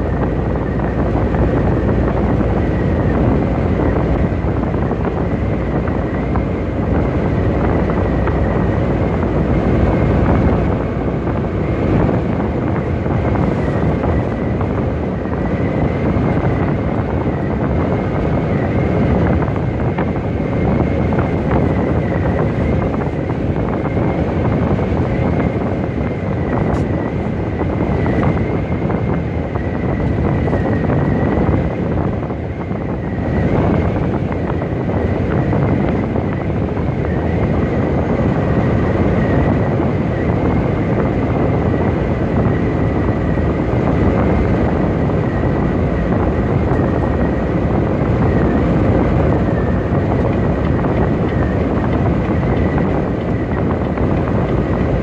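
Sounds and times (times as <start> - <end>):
truck engine tyre and wind drone: 0.0 - 55.0.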